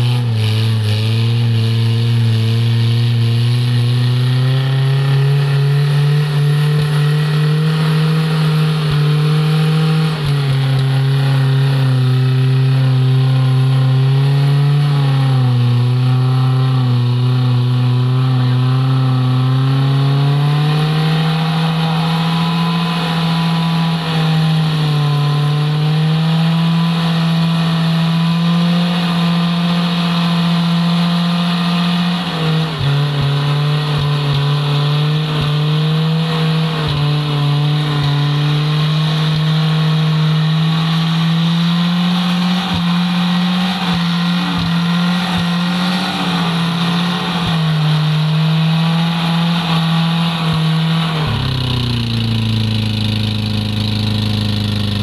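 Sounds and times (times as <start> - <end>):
off-road vehicle engine running hard: 0.0 - 55.0.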